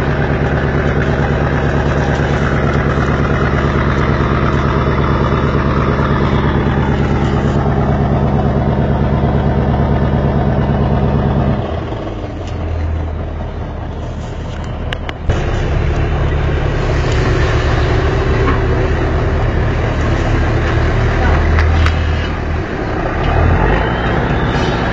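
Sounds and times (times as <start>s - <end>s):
boat engine running: 0.0s - 24.9s.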